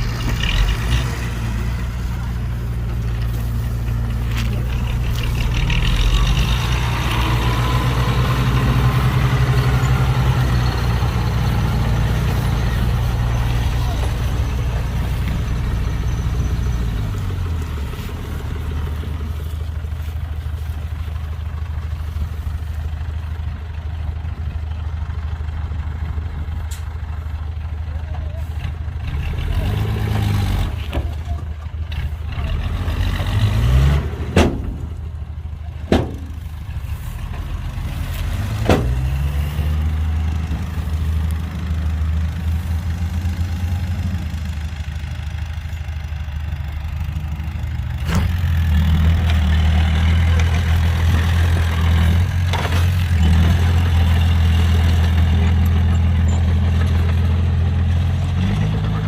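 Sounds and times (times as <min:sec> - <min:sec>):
heavy diesel engine droning: 0:00.0 - 0:59.0.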